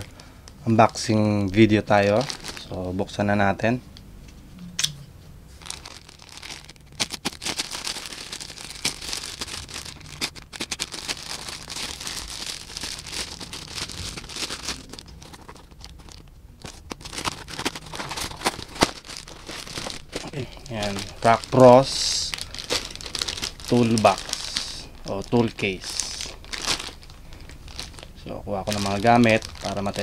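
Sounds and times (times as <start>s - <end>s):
plastic mailer bag crinkling: 1.6s - 2.8s, 5.6s - 30.0s.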